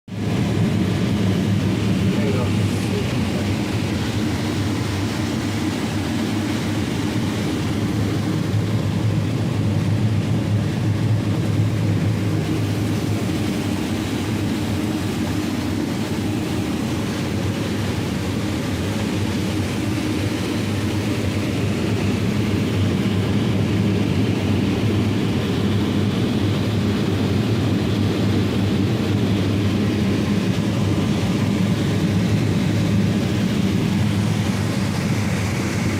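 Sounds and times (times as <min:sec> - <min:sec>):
combine harvester engine drone: 0:00.1 - 0:35.9.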